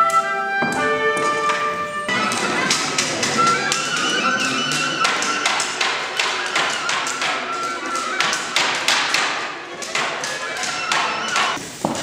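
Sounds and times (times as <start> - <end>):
music with a held high tone: 0.0 - 11.6
skis and poles knocking on floor: 0.1 - 12.0.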